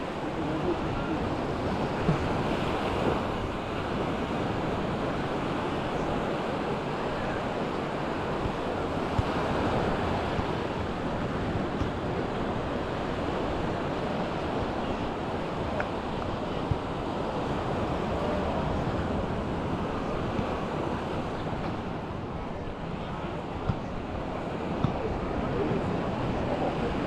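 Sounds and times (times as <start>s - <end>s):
waves washing onto sandy shore: 0.0s - 27.0s.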